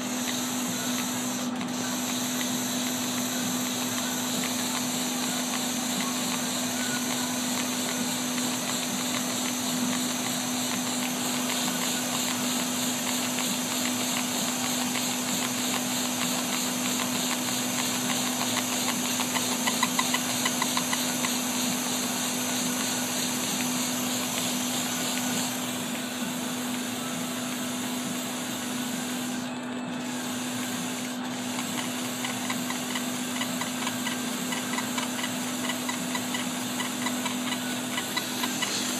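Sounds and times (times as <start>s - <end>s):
laser engraver running: 0.0s - 38.9s
rapid ticks: 0.2s - 25.6s, 31.4s - 38.9s.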